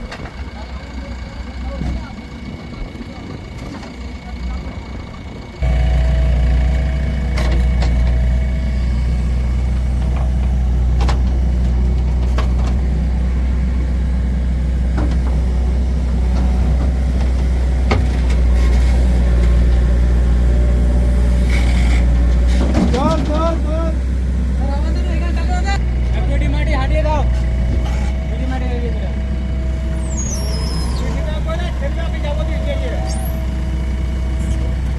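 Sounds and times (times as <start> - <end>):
heavy diesel engine humming: 0.0 - 34.9.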